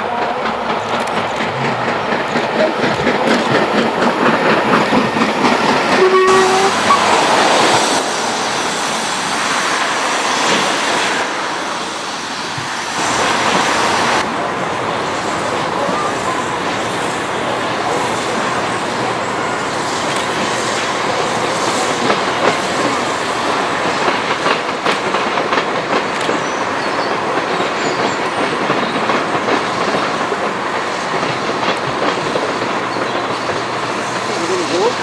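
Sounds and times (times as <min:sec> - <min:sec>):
train wheels clacking over rail joints: 0:00.0 - 0:08.2, 0:14.9 - 0:35.0
train rolling noise: 0:00.0 - 0:35.0.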